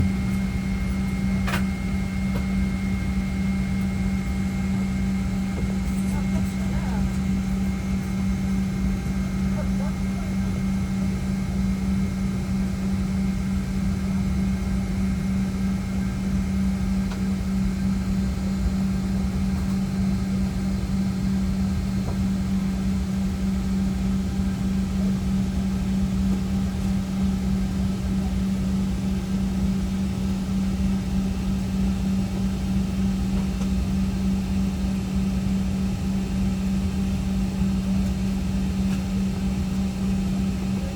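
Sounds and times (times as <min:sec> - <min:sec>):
constant low machinery hum: 0:00.0 - 0:40.9.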